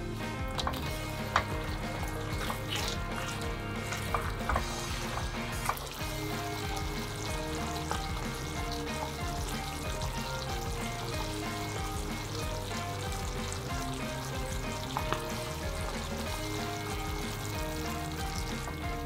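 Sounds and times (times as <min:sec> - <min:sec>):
sauce sizzling in a frying pan: 0:00.0 - 0:19.0
soft background music: 0:00.0 - 0:19.0.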